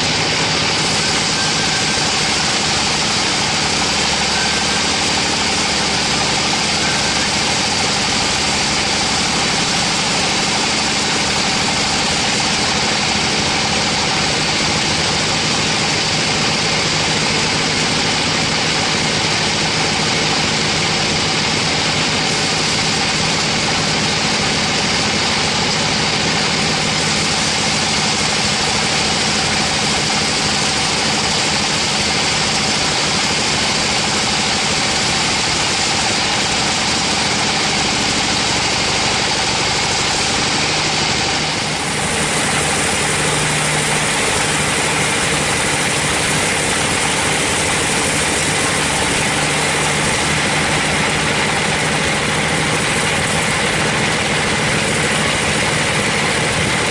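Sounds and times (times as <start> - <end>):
band saw machine drone: 0.0 - 56.9.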